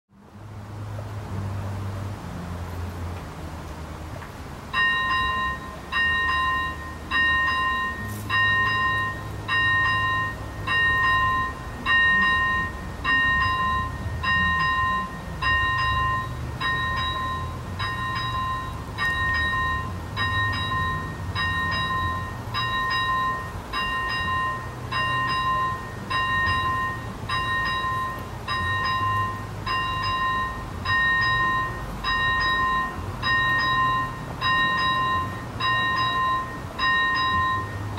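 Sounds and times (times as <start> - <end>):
level crossing bell dinging: 4.8 - 37.9.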